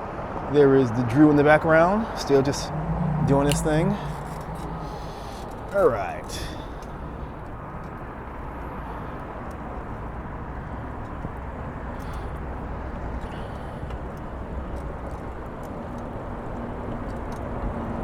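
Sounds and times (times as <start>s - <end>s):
street traffic: 0.0s - 18.0s
wind rumbling on microphone: 0.0s - 18.0s.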